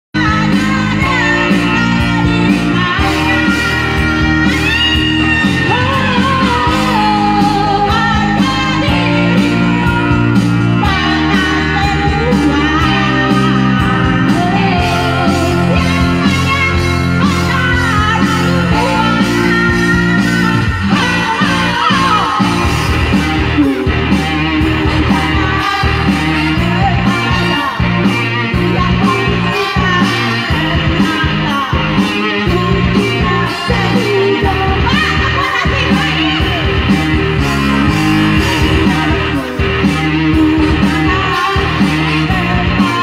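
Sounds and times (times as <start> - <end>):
bass: 0.0 - 43.0
guitar: 0.1 - 43.0
person singing: 0.2 - 43.0
steady beat: 0.5 - 42.9.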